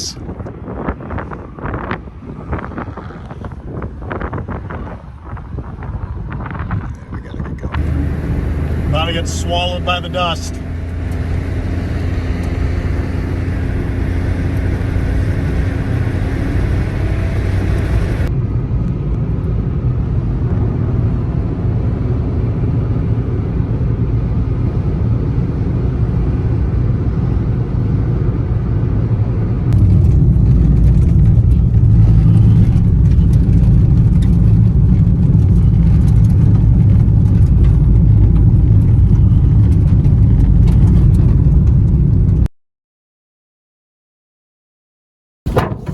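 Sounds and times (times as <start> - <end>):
wind and road noise rumble: 0.0 - 42.5, 45.5 - 45.9.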